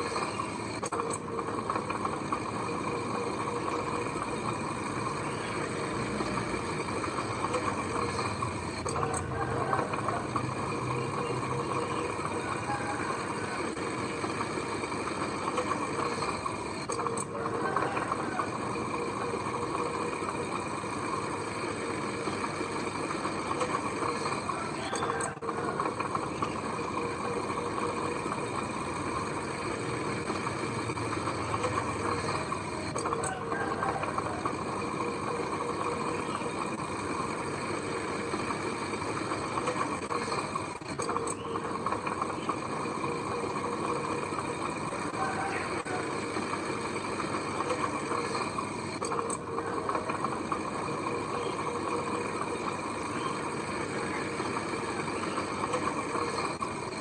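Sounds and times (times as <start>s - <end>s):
heavy machinery engine droning: 0.0s - 57.0s.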